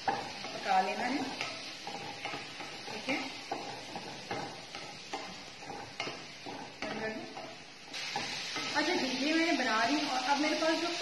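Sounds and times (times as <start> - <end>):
sauce sizzling: 0.0 - 11.0
wooden spoon scraping a pan: 0.0 - 11.0.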